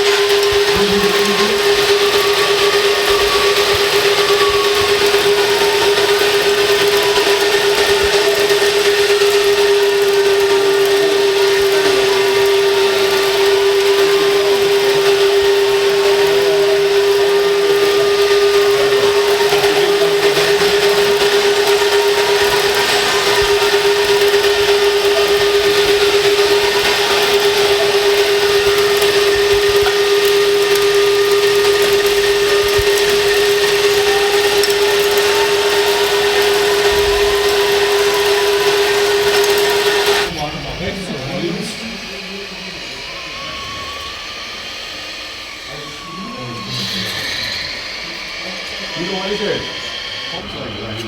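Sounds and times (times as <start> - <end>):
hiss: 0.0 - 51.0
rising and falling whine: 0.0 - 51.0
steady electric whine: 0.0 - 51.0.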